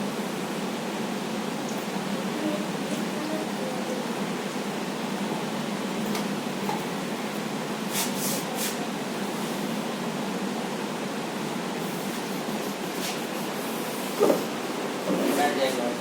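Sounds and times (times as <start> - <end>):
steady room noise hiss: 0.0 - 16.0.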